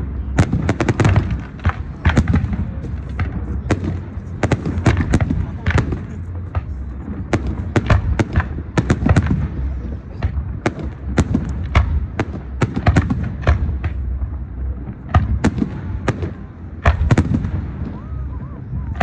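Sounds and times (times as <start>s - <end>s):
fireworks banging: 0.0s - 19.0s
low rumble: 0.0s - 19.0s.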